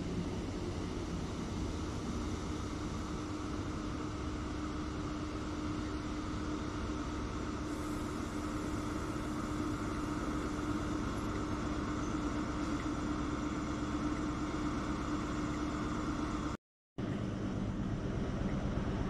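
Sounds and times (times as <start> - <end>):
diesel train engine running: 0.0 - 19.0.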